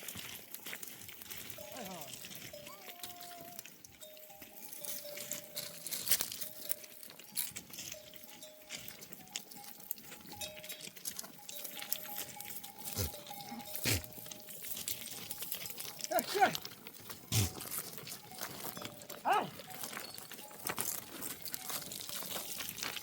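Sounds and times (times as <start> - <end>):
animal bells ringing: 0.0 - 23.0
hooves clicking on stony ground: 0.0 - 23.0.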